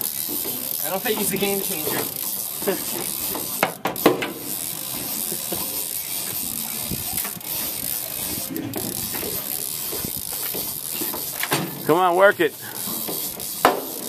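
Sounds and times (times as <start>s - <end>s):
fishing reel whirring and clicking: 0.0s - 14.0s.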